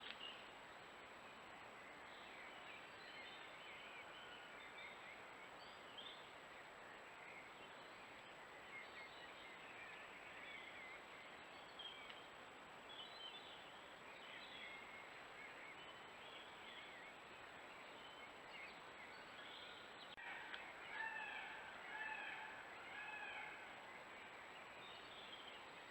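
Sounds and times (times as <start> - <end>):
faint steady recording hiss: 0.0 - 25.9.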